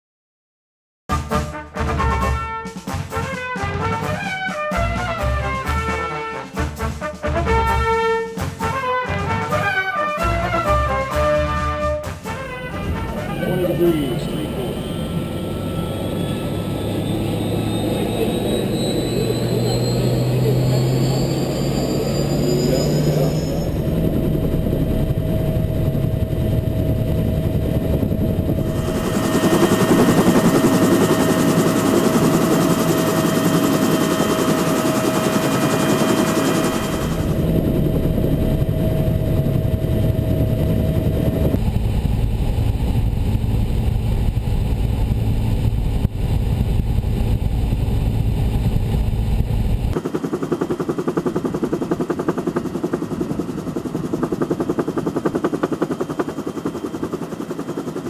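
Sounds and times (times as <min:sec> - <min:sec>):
helicopter rotor and turbine noise: 0:02.3 - 0:58.0.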